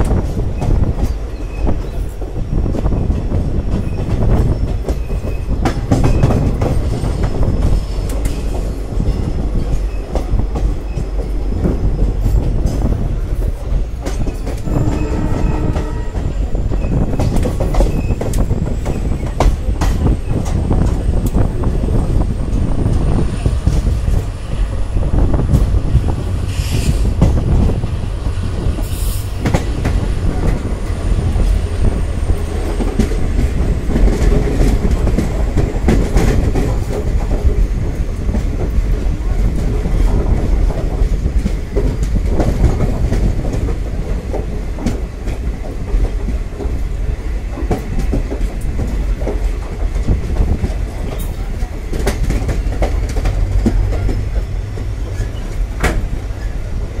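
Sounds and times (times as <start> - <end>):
wheels clicking over rail joints: 0.0 - 24.4, 25.5 - 57.0
train low rumble: 0.0 - 57.0.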